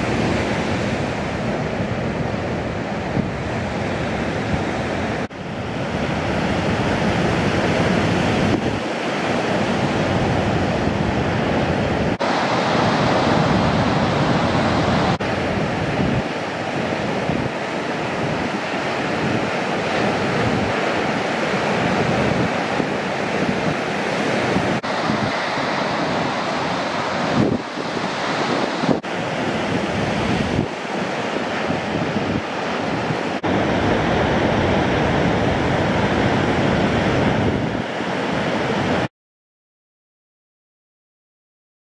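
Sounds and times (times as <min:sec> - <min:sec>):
ocean surf breaking: 0:00.0 - 0:39.1
wind buffeting microphone: 0:00.0 - 0:39.1.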